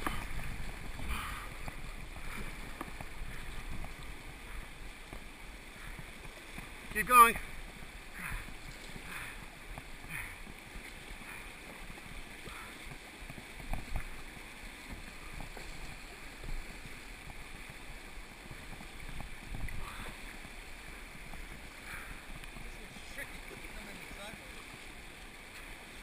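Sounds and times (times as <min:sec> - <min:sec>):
paddle splashes: 0:00.0 - 0:26.0
rushing whitewater: 0:00.0 - 0:26.0.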